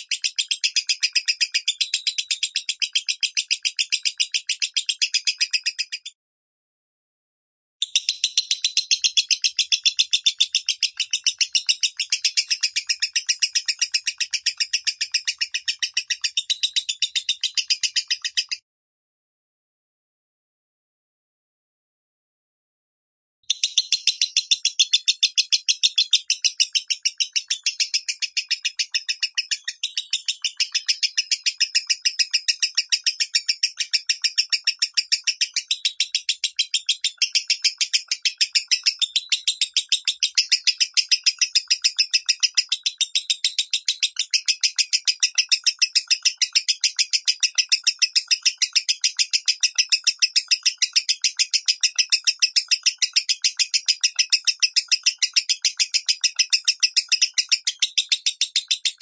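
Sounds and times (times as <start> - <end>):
bird rapid high chirps: 0.0 - 6.2, 7.8 - 18.6, 23.5 - 59.0.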